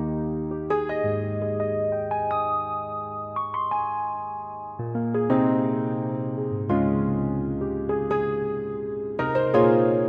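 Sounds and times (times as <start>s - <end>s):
slow keyboard melody: 0.0s - 10.0s.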